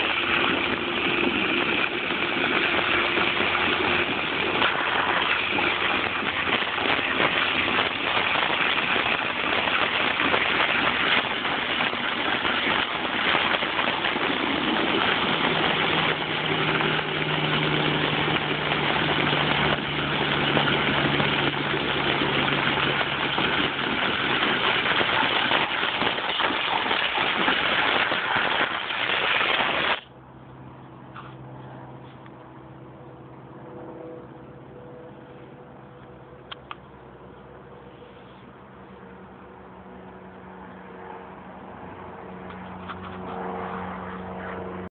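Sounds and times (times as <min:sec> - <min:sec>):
engine hum: 0:00.0 - 0:44.9.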